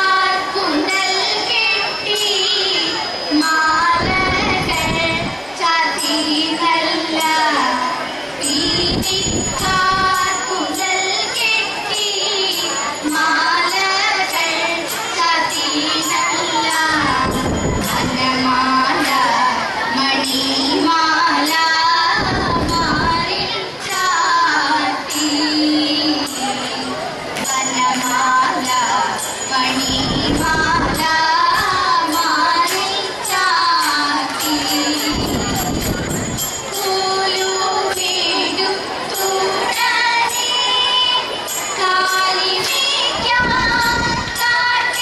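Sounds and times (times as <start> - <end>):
girls singing in unison: 0.0 - 35.9, 36.7 - 45.0.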